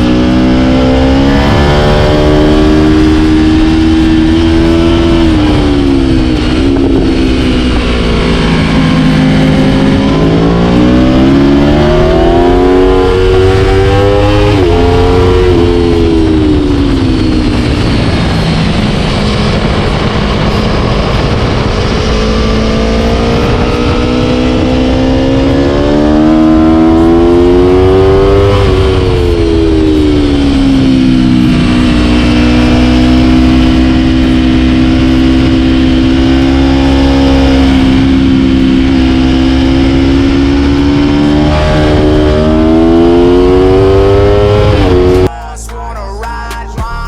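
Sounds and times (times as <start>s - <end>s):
motorcycle engine accelerating: 0.0s - 45.3s.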